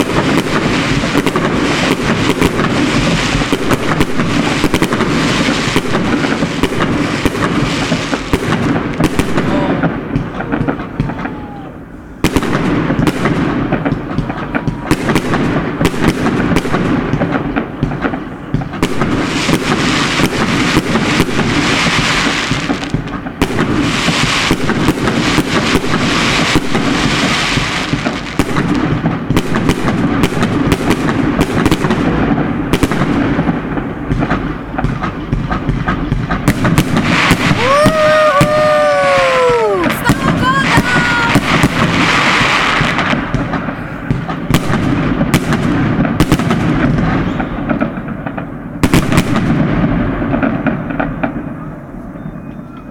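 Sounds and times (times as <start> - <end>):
fireworks banging: 0.0 - 52.9.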